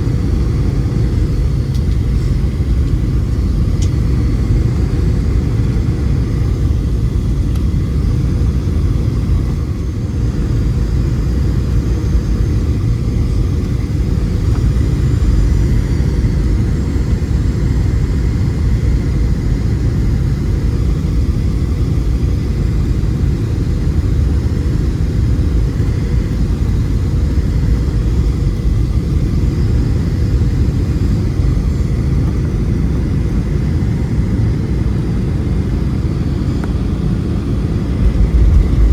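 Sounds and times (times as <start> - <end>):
faint steady hum: 0.0 - 38.9
jet engine rumble in cabin: 0.0 - 38.9.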